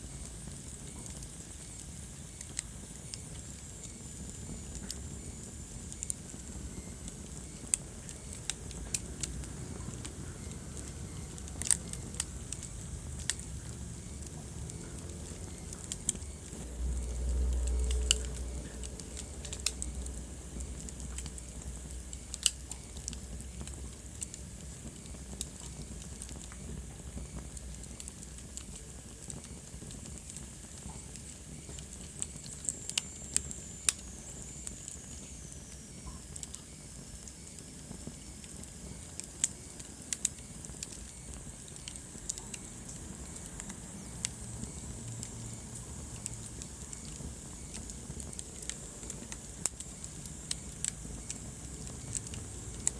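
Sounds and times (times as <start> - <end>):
wood fire hissing and crackling: 0.0 - 52.9.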